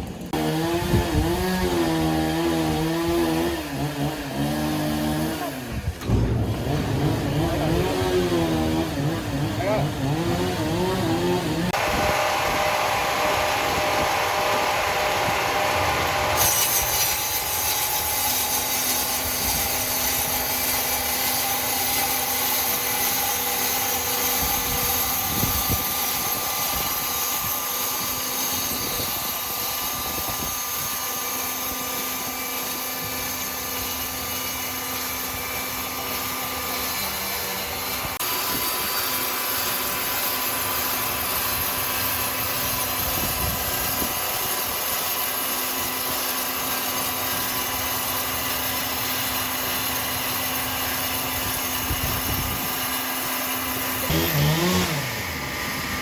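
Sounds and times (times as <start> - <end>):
power saw cutting wood: 0.0 - 56.0.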